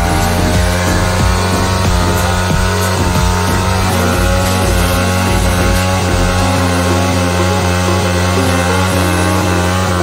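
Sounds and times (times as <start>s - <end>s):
background music with steady beat: 0.0s - 10.0s
motorcycle engine at high revs: 0.0s - 10.0s.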